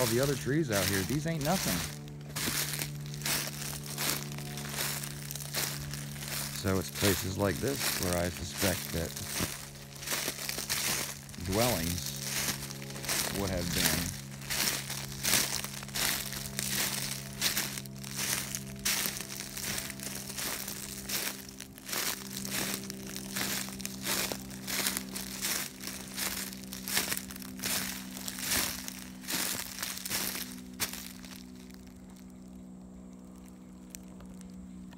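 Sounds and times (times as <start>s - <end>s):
footsteps crunching dry leaves: 0.0s - 34.9s.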